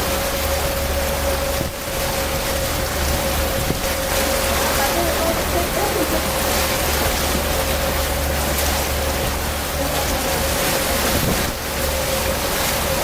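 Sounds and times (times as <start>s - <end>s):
boat engine humming: 0.0s - 13.0s
wind and water rushing: 0.0s - 13.0s.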